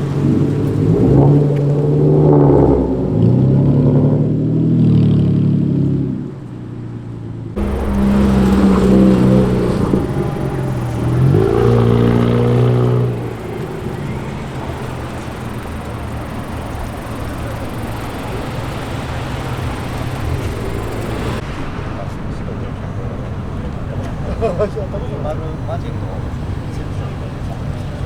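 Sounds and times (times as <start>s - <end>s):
car engine running loud: 0.0s - 28.0s
steady rumble of cars: 0.0s - 28.0s.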